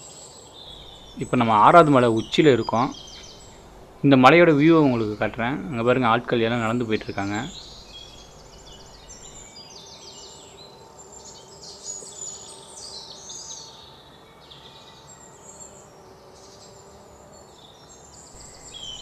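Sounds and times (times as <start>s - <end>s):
faint outdoor background: 0.0s - 19.0s
wild birds chirping: 0.0s - 19.0s.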